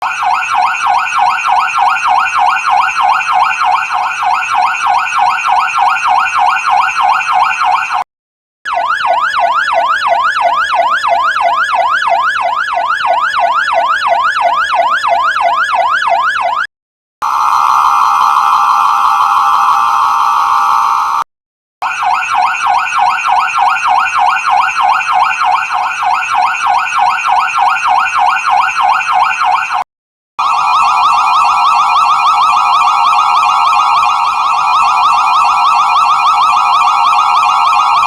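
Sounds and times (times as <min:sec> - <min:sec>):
fire truck siren wailing: 0:00.0 - 0:08.0, 0:08.7 - 0:29.6, 0:30.4 - 0:38.0.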